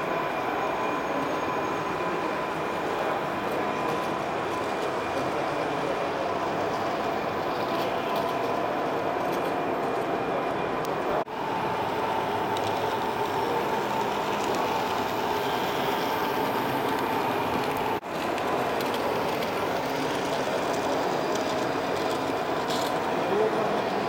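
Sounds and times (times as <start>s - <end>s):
hall background noise: 0.0s - 24.0s
model trains running: 0.0s - 24.0s.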